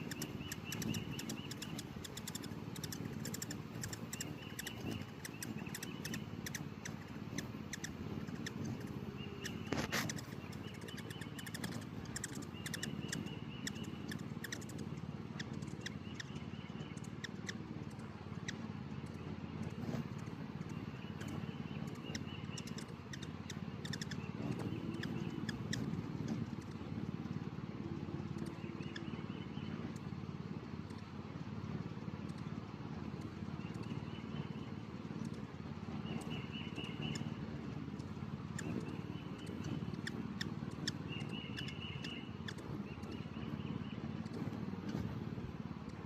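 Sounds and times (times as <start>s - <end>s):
hummingbirds chirping: 0.0s - 46.0s
steady low hum: 0.0s - 46.0s.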